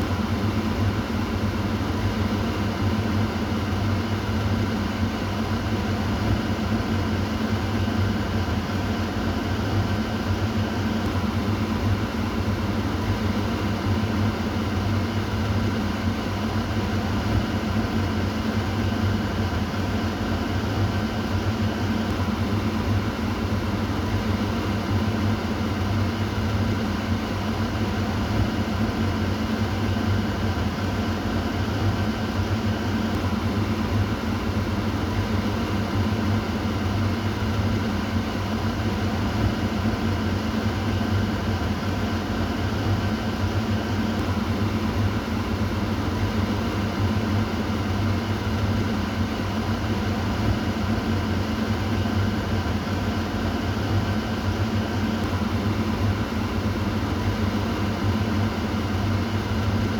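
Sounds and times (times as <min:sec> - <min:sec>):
kitchen exhaust fan humming: 0:00.0 - 0:59.9.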